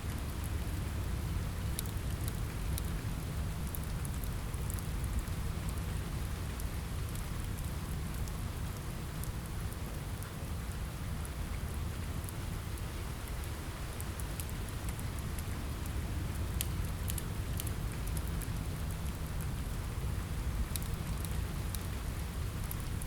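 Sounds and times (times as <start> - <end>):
fire crackling: 0.0 - 23.0
rain on a window: 0.0 - 23.0.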